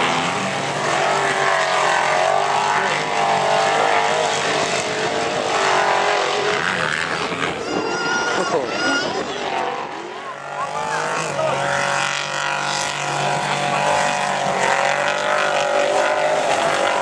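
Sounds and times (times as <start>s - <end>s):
race truck engines revving: 0.0s - 17.0s.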